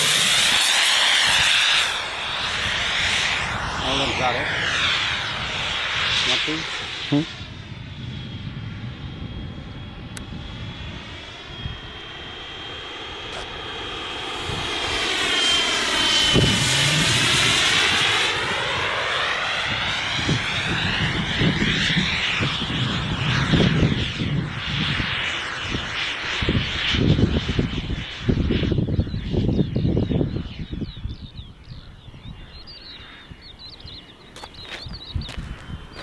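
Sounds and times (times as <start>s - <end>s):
model jet turbine whine: 0.0s - 36.0s.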